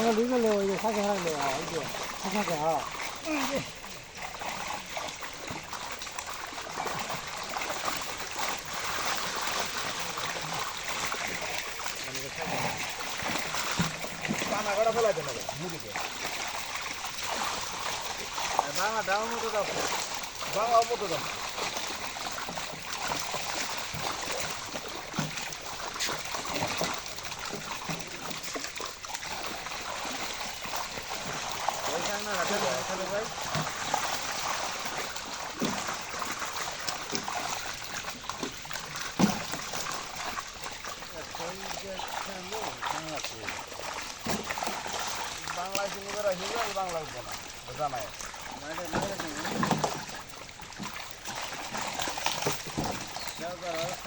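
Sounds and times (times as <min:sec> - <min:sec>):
pond water splashing: 0:00.0 - 0:54.0.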